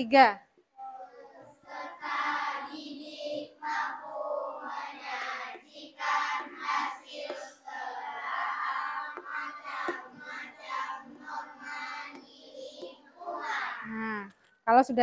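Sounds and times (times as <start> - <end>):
children reading aloud in unison: 0.8 - 14.0.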